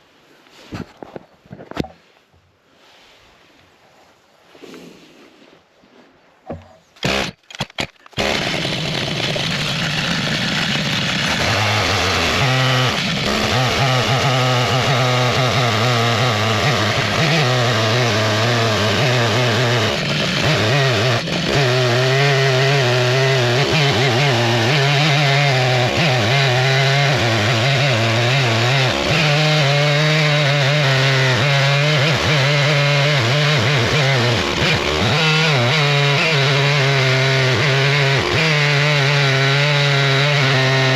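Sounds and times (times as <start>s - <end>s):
chainsaw cutting log: 6.5s - 40.9s.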